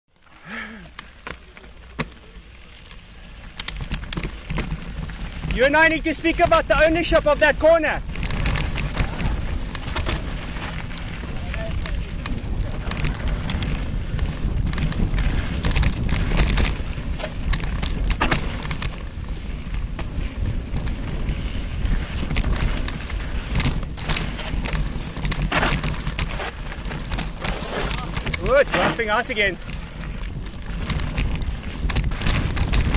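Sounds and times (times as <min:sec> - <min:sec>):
bike clicks and rattles: 0:00.1 - 0:32.9
tyres rolling over loose stones: 0:00.1 - 0:32.9
wind rumble on microphone: 0:03.2 - 0:32.9.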